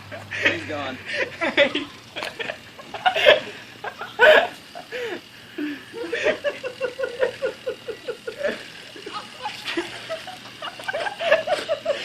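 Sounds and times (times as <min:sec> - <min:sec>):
person laughing: 0:00.2 - 0:12.0.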